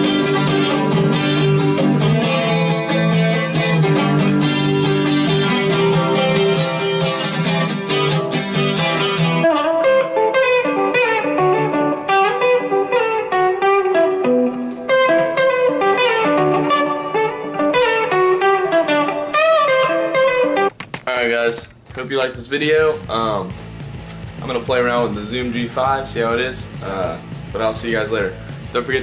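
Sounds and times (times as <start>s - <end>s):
electric guitar playing: 0.0s - 20.8s, 21.5s - 29.0s.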